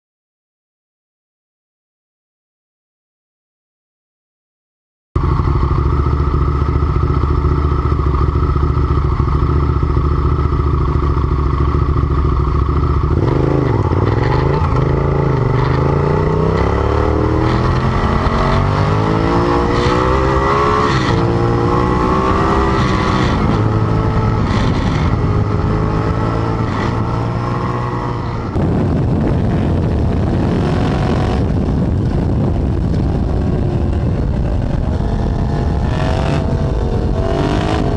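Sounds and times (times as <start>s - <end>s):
motorcycle engine revving: 5.2s - 37.9s.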